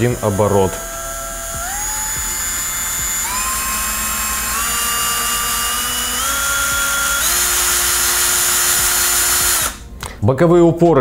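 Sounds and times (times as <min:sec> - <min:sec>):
router motor whine: 0:00.0 - 0:09.8.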